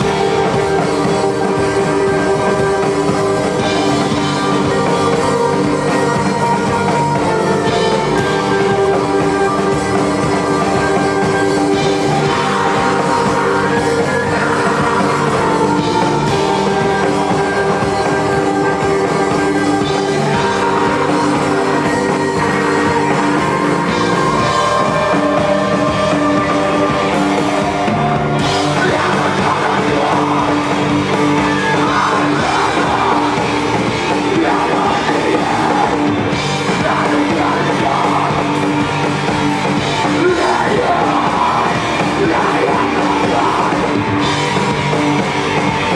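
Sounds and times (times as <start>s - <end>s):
person singing: 0.0s - 45.9s
rock band playing: 0.0s - 45.9s.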